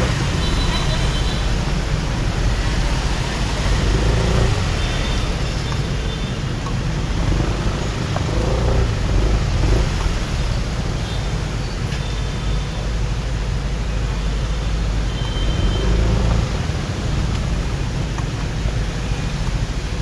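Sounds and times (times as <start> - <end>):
motorbike engine and road noise: 0.0 - 20.0
other vehicle engines: 0.0 - 20.0.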